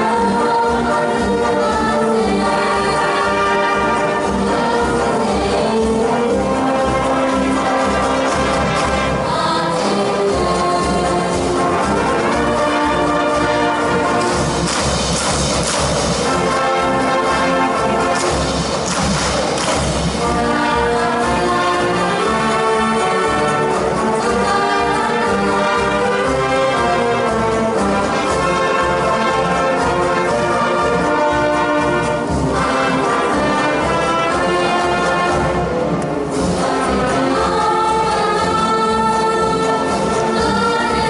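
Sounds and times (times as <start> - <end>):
marching brass bands playing: 0.0 - 41.0.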